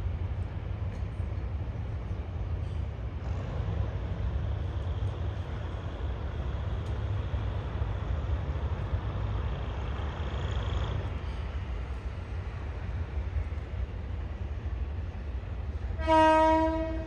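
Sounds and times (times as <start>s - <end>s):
train running past: 0.0s - 17.0s.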